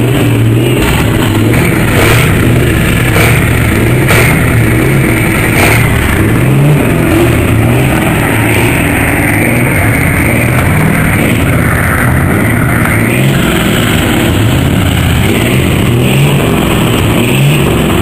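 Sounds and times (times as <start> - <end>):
heavy truck diesel engines: 0.0 - 18.0
loud rock music: 0.0 - 18.0.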